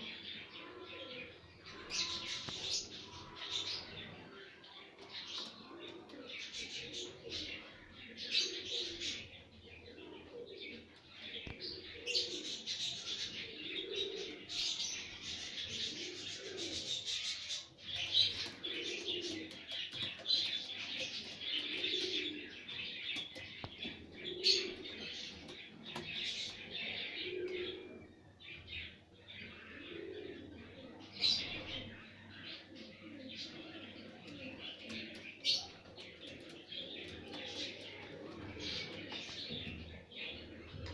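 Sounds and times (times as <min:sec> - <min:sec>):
caged birds chirping: 0:00.0 - 0:40.9
low dove-like coo: 0:00.0 - 0:40.9.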